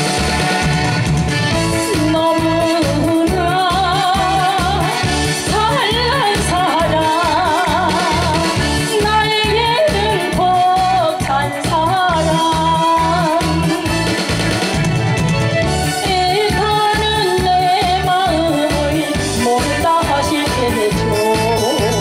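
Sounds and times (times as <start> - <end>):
backing track with steady beat: 0.0 - 22.0
woman singing into microphone: 1.7 - 14.1, 15.9 - 22.0.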